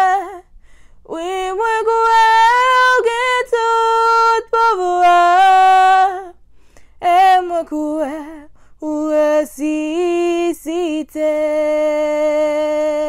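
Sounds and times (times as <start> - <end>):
woman singing unaccompanied: 0.0 - 6.4, 7.0 - 13.0.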